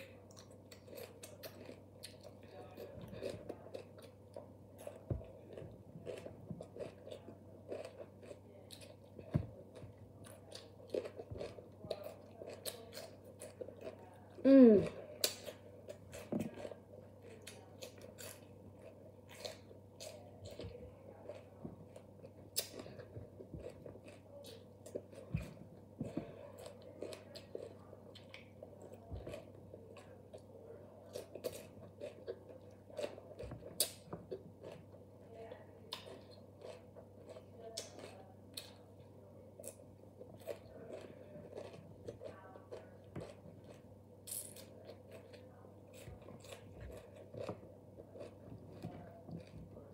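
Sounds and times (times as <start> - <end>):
faint steady hum: 0.0 - 49.9
person chewing crisp vegetables: 0.0 - 49.9.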